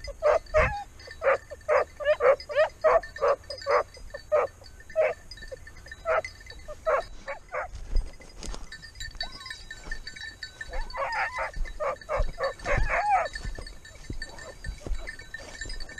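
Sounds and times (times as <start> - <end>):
hound barking: 0.0 - 7.8, 10.6 - 15.9.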